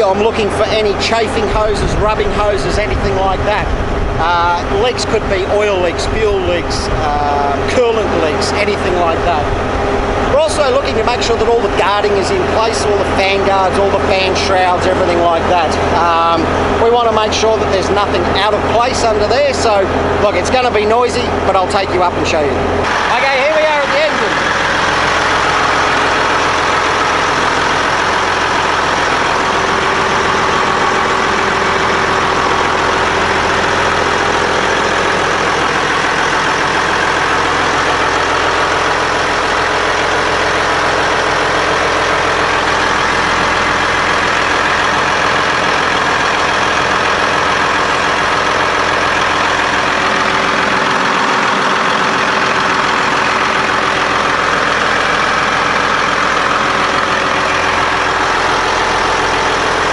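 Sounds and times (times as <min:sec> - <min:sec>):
loud diesel engine running: 0:00.0 - 0:59.9.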